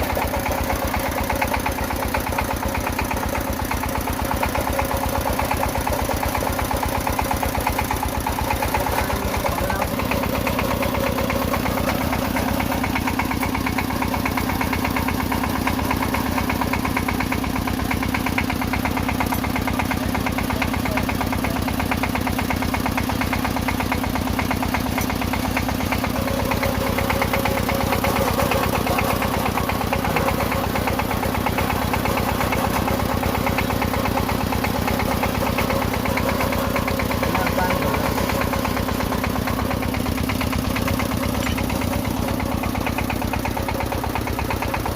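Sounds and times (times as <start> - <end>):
boring rig engine running: 0.0 - 44.9.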